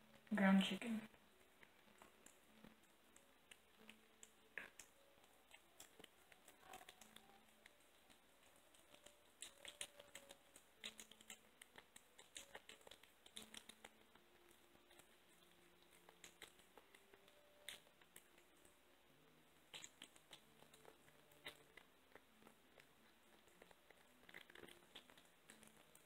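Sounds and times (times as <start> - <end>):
kitten eating wet food: 1.1 - 26.0.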